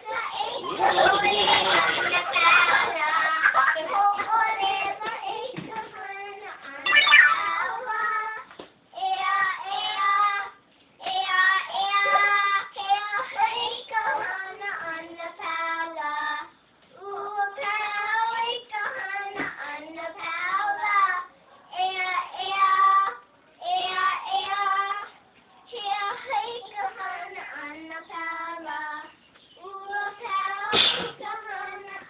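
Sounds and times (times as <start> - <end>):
girl singing: 0.0 - 32.0.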